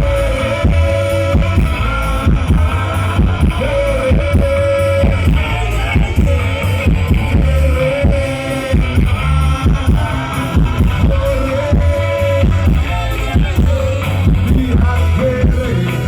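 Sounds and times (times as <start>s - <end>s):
ska band playing loud: 0.0s - 16.0s.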